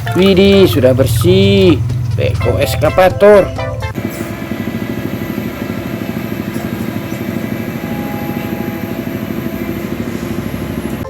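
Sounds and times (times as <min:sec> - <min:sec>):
engine running with fast throb: 0:00.0 - 0:11.0.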